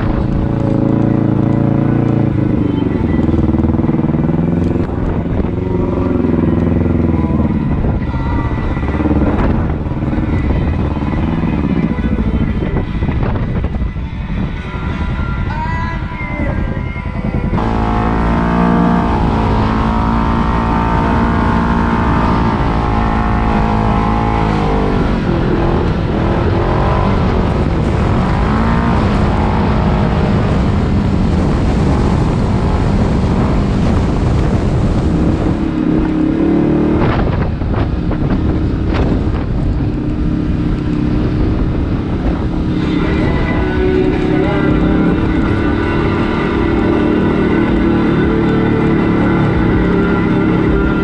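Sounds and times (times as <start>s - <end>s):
engine revving: 0.0s - 13.7s, 17.5s - 51.0s.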